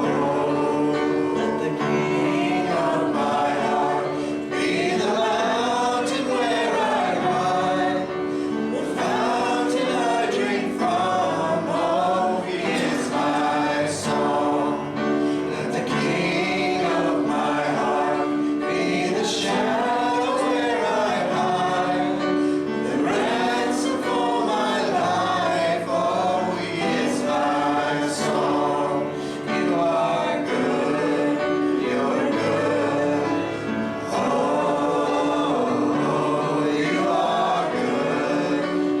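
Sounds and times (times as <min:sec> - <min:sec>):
voices singing a worship song: 0:00.0 - 0:39.0.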